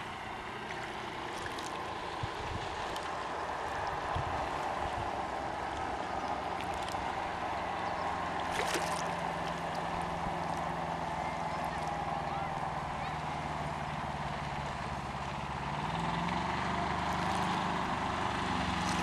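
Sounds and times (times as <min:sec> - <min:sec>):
water lapping against a dock: 0:00.0 - 0:19.0.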